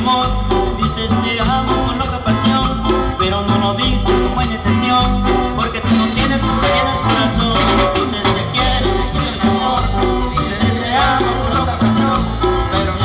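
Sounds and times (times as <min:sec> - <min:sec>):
live band playing dance music: 0:00.0 - 0:13.0.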